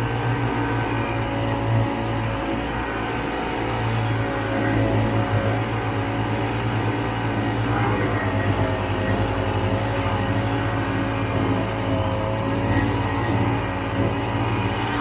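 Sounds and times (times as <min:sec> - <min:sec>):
snowmobile engine running: 0:00.0 - 0:15.0.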